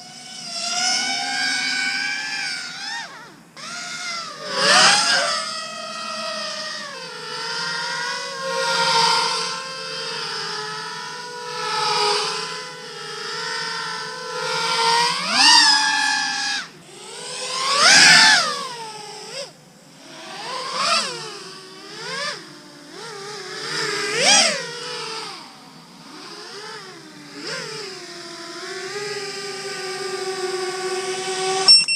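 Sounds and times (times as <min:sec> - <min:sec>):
drone motor and prop whine: 0:00.0 - 0:31.9.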